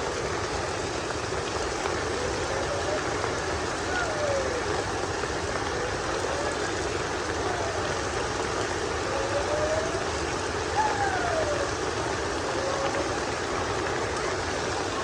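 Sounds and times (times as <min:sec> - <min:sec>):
heavy rain falling: 0:00.0 - 0:15.0
faint gliding calls: 0:01.8 - 0:15.0.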